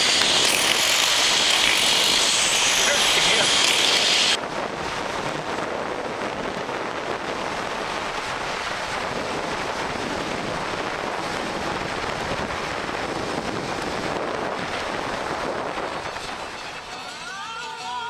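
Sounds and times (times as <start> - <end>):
wind rushing over microphone: 0.0 - 17.5.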